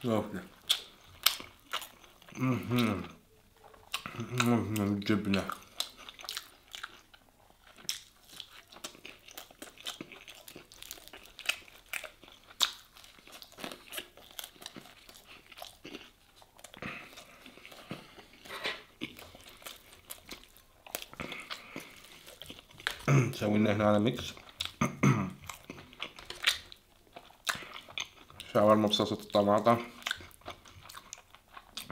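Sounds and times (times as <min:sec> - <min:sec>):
person chewing crunchy toast: 0:00.5 - 0:23.4, 0:24.2 - 0:28.6, 0:29.2 - 0:31.9.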